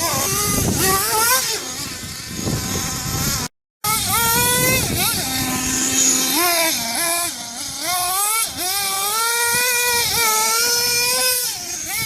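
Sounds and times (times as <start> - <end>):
rc truck motor revving: 0.0 - 12.0.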